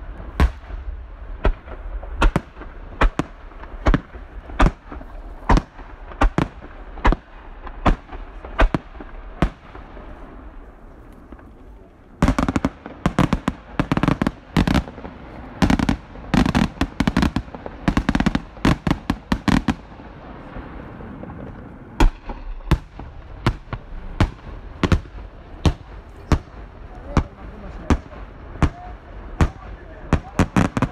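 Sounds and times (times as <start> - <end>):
fireworks bangs: 0.0 - 30.9.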